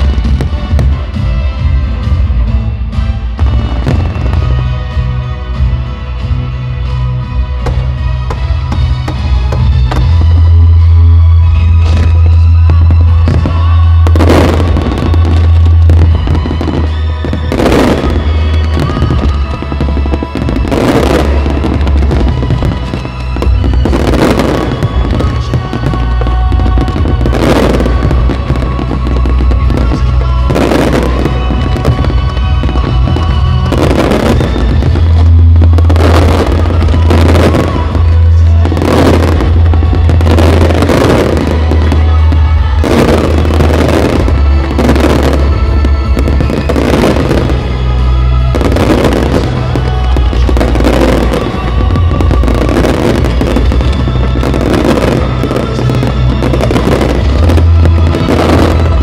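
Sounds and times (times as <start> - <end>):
loud music with bass: 0.0 - 59.0.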